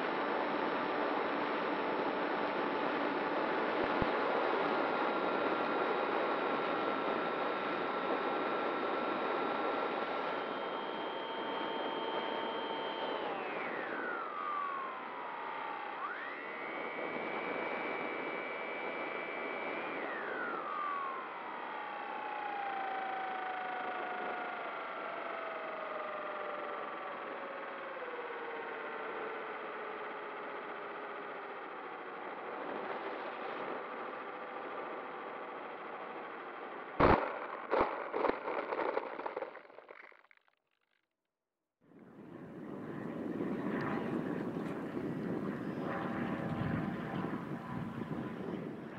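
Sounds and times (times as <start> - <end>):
model plane motor whining: 0.0 - 36.6, 42.2 - 48.9.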